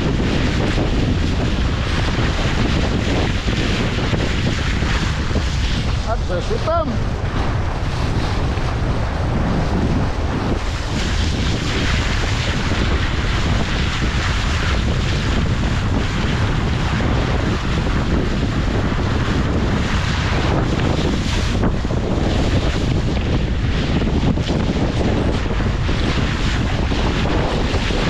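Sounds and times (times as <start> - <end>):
strong wind buffeting microphone: 0.0 - 28.0
water rushing around boat: 0.0 - 28.0.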